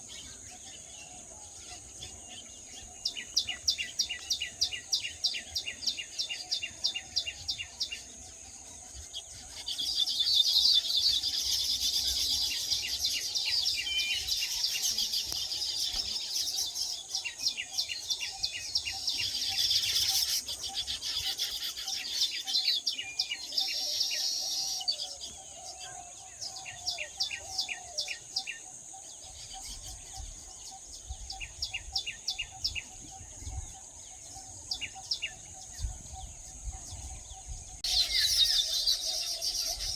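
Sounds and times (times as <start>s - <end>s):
birds chattering: 0.0s - 39.9s
small birds chirping: 0.0s - 39.9s.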